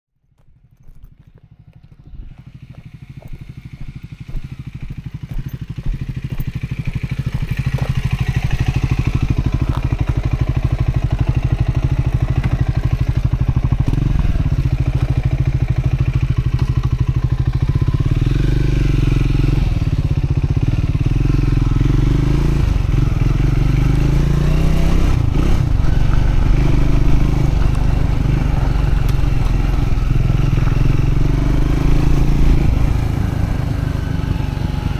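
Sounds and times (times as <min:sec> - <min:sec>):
motorcycle engine revving: 0:01.3 - 0:34.9.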